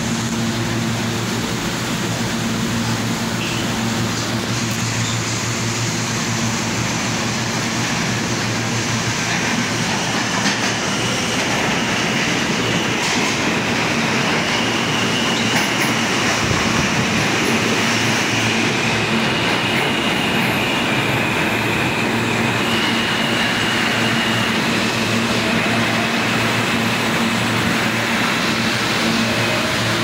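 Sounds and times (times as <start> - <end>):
train wheel rumble and clatter: 0.0 - 30.0.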